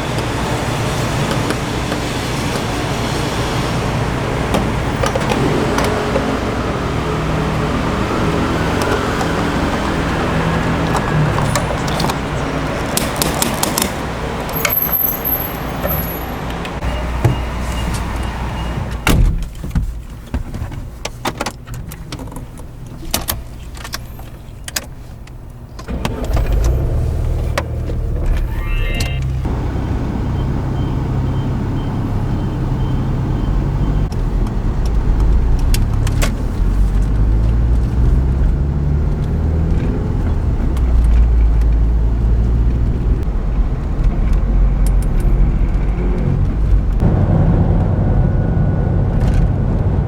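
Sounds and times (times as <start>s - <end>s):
vehicle road noise: 0.0s - 50.0s.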